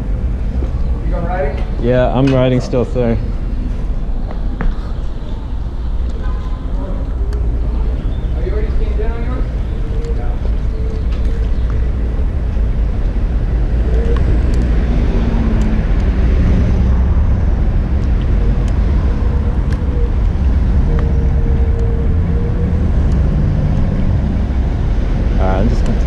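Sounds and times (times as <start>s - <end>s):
road noise: 0.0s - 26.0s
wind rumble on microphone: 0.0s - 26.0s.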